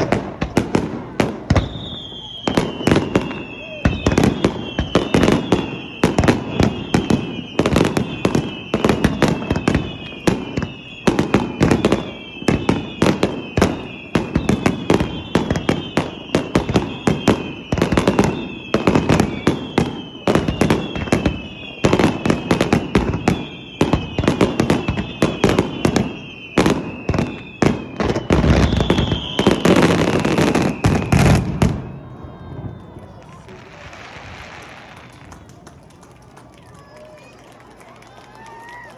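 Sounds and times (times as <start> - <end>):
falling firework whistles: 0.0 - 35.3
fireworks booming and crackling: 0.0 - 36.4.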